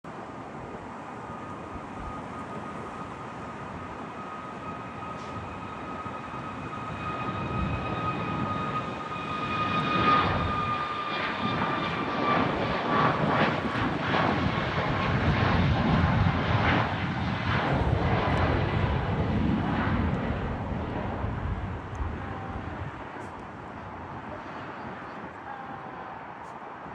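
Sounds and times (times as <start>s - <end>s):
jet airliner passing: 0.2s - 26.9s.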